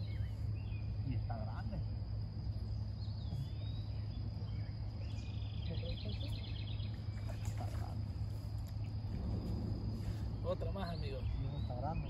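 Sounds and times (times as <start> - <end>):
songbirds calling: 0.0 - 12.0
steady low rumble: 0.0 - 12.0.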